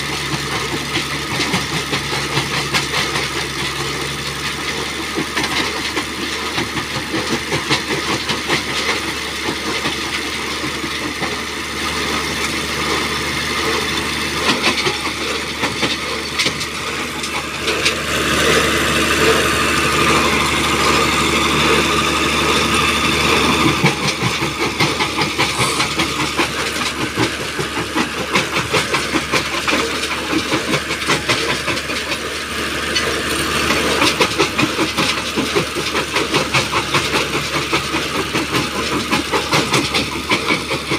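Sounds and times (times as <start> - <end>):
engine running: 0.0 - 40.9
stones rattling and crunching: 0.1 - 32.4, 33.7 - 40.9.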